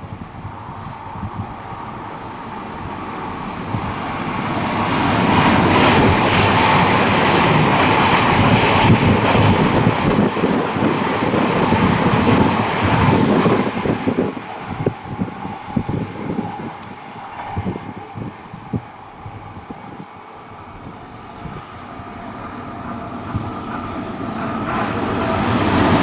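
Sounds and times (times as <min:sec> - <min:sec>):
electric train passing: 0:00.0 - 0:26.0
train wheels on rails: 0:00.0 - 0:26.0.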